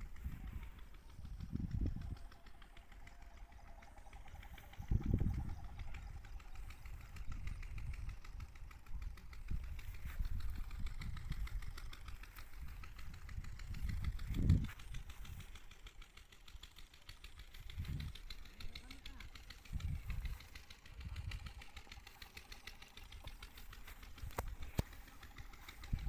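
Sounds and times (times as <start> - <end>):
engine running with fast pulse: 0.0 - 26.0.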